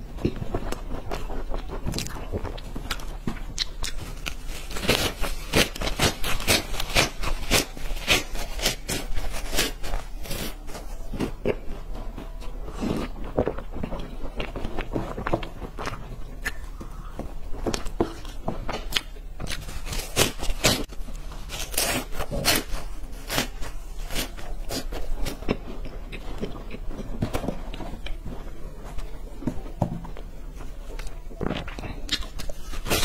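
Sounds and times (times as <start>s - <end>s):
snack sticks crunching: 0.2s - 30.3s, 30.9s - 33.0s.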